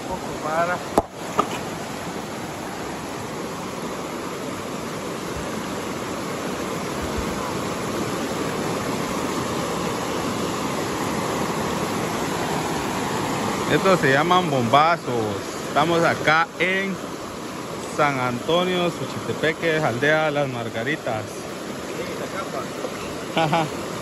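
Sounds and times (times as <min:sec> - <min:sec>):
river rapids rushing over rocks: 0:00.0 - 0:24.0.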